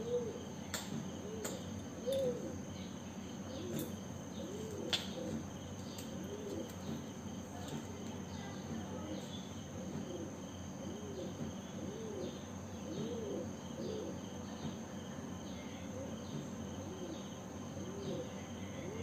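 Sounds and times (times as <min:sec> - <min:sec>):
steady high insect tone: 0:00.0 - 0:19.0.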